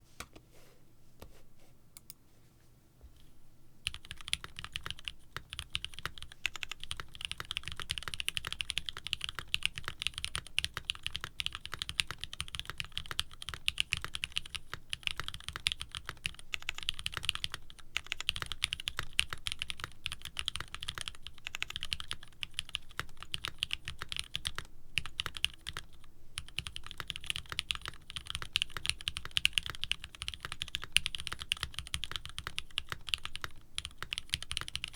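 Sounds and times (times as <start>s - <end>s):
typing on mechanical keyboard: 3.8s - 34.9s.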